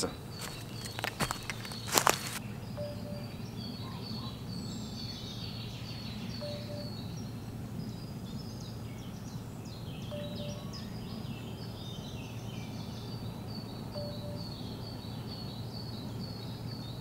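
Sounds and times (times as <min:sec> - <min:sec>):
steady low rumble: 0:00.0 - 0:16.8
songbirds chirping and trilling: 0:00.0 - 0:17.0.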